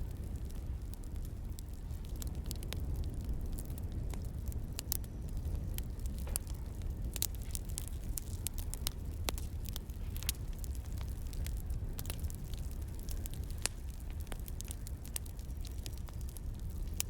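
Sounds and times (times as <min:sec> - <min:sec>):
firewood crackling and popping: 0:00.0 - 0:17.0
low steady rumble: 0:00.0 - 0:17.0.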